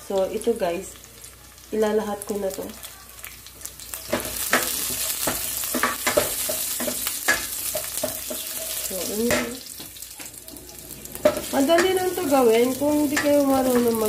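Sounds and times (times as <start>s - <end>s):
garlic and spices sizzling in oil: 0.0s - 14.0s.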